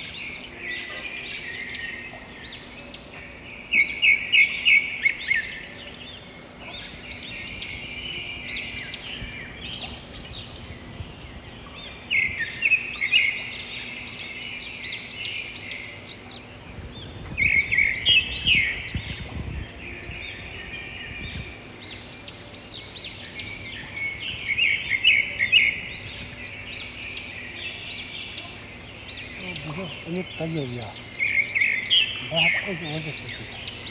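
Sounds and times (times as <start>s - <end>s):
low rumble of wind: 0.0s - 33.9s
songbird chirping: 0.0s - 33.9s.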